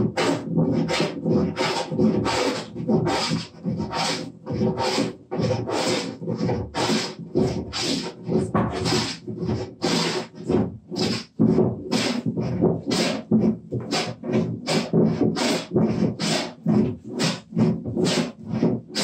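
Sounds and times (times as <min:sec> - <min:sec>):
hand plane shaving wood: 0:00.0 - 0:19.0.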